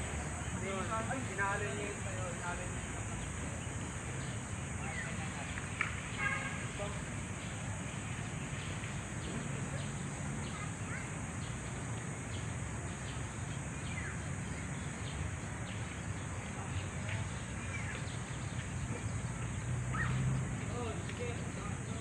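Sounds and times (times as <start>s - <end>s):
steady high hiss: 0.0s - 19.5s.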